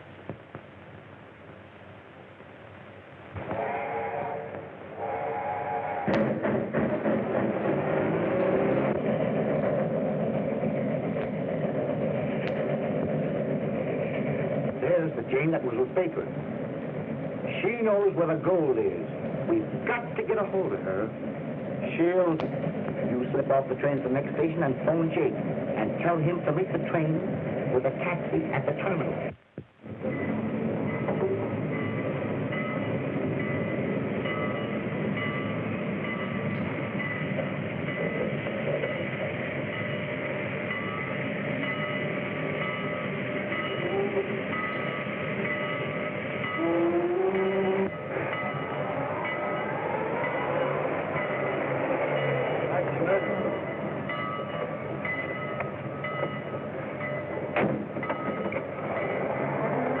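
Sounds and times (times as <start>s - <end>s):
train rumbling and rattling: 0.0s - 60.0s.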